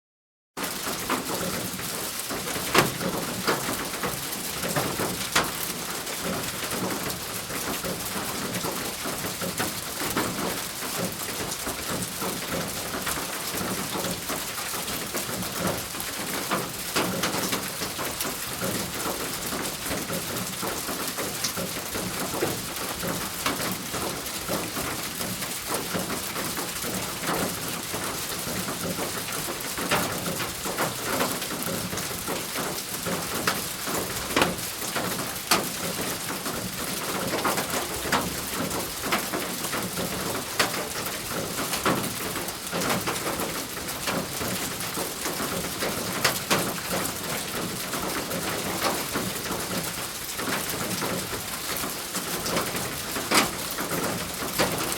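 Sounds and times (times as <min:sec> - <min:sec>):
rain drumming on thin roof: 0:00.6 - 0:54.9.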